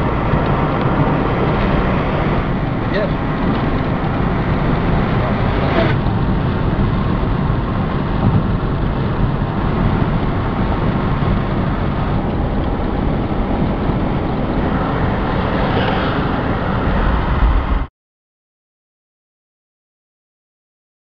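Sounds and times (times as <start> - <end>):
car road and wind noise: 0.0 - 17.9.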